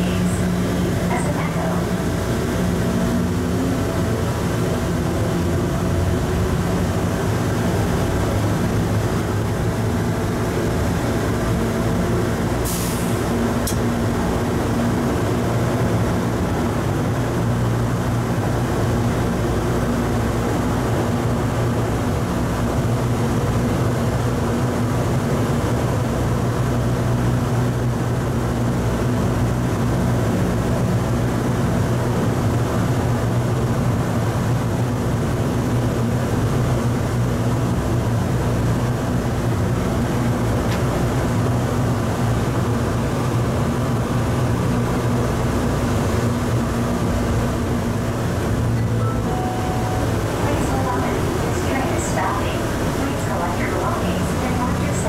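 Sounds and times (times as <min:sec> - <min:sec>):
train motor hum: 0:00.0 - 0:55.0.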